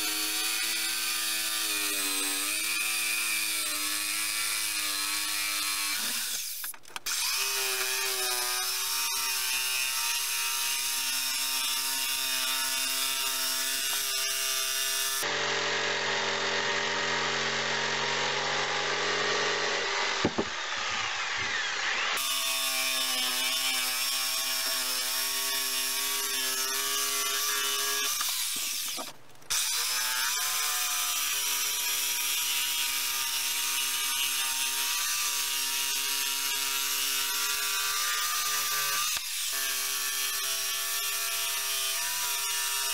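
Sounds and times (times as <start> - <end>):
jigsaw cutting wood: 0.0 - 42.9.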